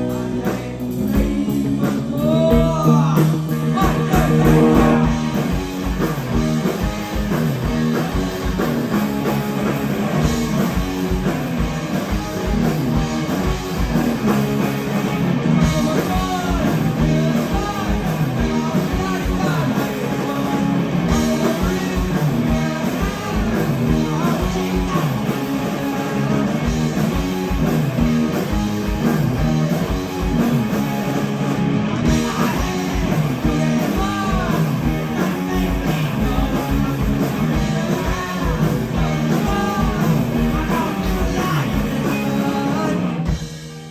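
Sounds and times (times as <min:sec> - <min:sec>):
bass guitar: 0:00.0 - 0:43.9
drum kit beat: 0:00.0 - 0:43.9
electric guitar: 0:00.0 - 0:43.9.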